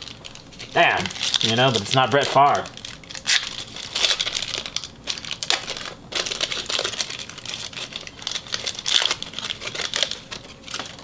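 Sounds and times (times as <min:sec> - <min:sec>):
cards and packaging rustling: 0:00.0 - 0:11.0.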